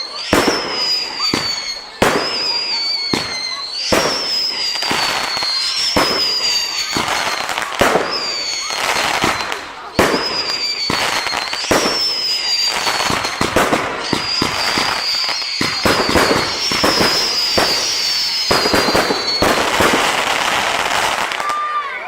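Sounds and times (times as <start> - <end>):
firework bangs: 0.0 - 22.0
firework crackling: 0.0 - 22.0
firework whistles: 0.0 - 22.0.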